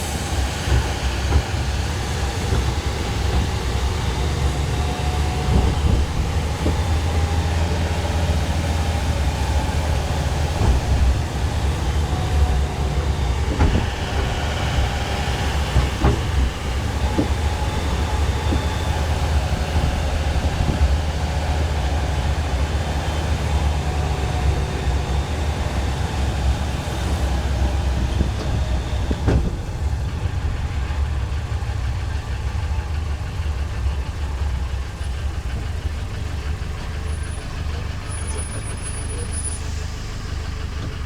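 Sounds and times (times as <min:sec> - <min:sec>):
train engine rumbling: 0:00.0 - 0:41.0.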